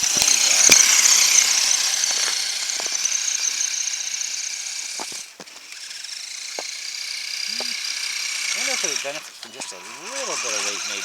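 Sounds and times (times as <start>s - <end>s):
plow pushing snow: 0.0s - 11.0s
toy car motor whining: 0.0s - 11.0s.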